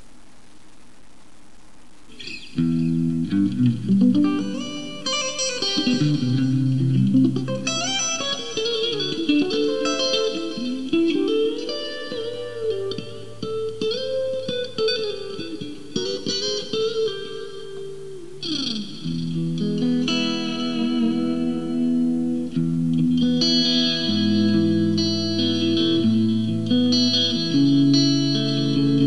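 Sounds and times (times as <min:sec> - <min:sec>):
clean electric guitar lead: 0:02.1 - 0:29.0.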